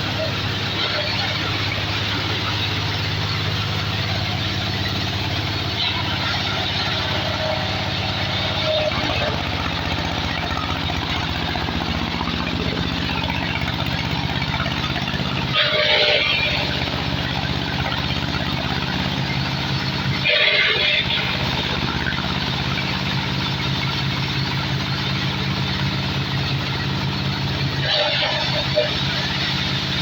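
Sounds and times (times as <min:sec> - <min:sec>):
sawdust machine engine running: 0:00.0 - 0:30.0.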